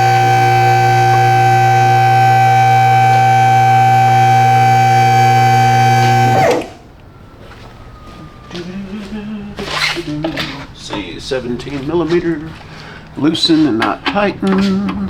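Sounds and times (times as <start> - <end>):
hydraulic pump motor humming: 0.0 - 15.0.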